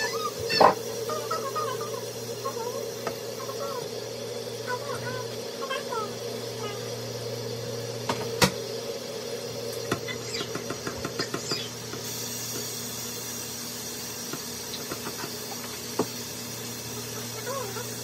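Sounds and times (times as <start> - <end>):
water running into steel sink: 0.0 - 7.2, 9.5 - 18.0.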